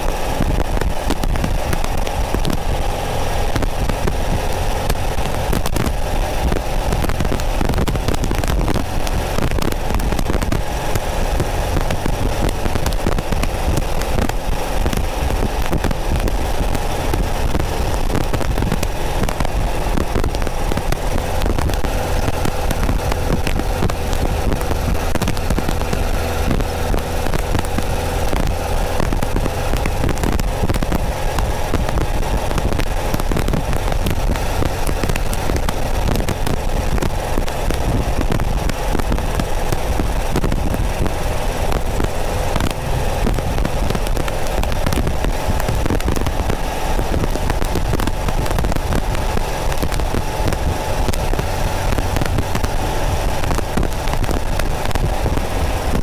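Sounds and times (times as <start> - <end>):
car engine running: 0.0 - 56.0
static crackle: 0.0 - 56.0.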